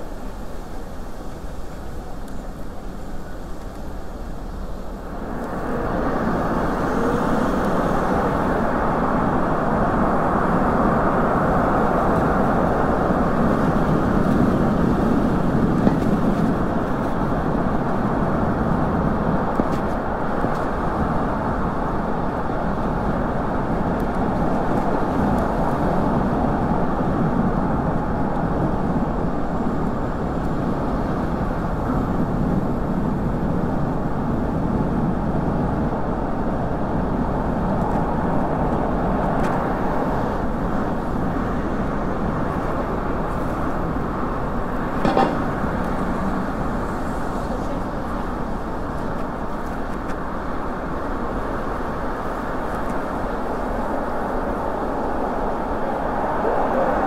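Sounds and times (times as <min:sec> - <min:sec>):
bicycle road noise: 0:00.0 - 0:57.0
car traffic: 0:00.0 - 0:57.0
wind rush on microphone: 0:00.0 - 0:57.0.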